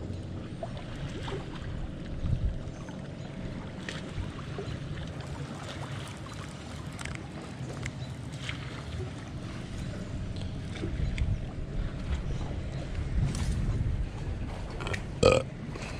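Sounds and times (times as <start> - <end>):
low rumble of wind: 0.0 - 15.9.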